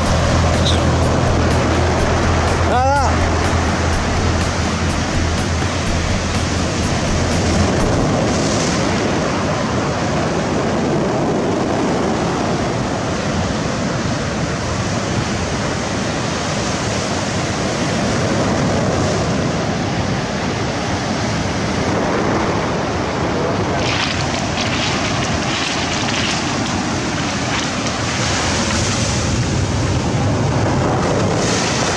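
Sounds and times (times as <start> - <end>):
sea surf washing: 0.0 - 31.9
wind on microphone: 0.0 - 31.9.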